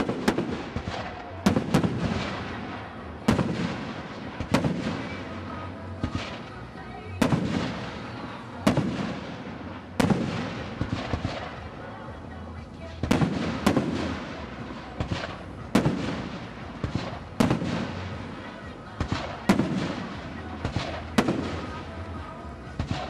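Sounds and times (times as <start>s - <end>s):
firework shells bursting with bangs: 0.0s - 12.2s, 12.8s - 23.0s.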